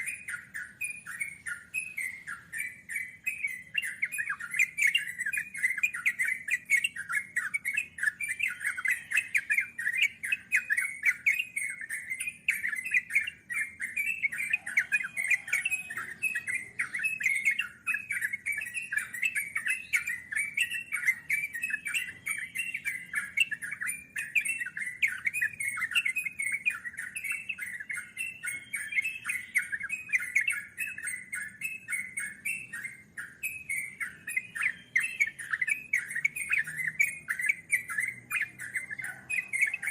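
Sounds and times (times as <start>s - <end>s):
bird singing bubbly chattering notes: 0.0s - 39.9s.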